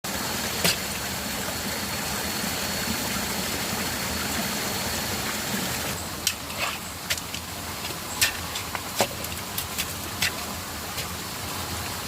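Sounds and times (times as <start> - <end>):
water rushing over small waterfall: 0.1 - 12.0.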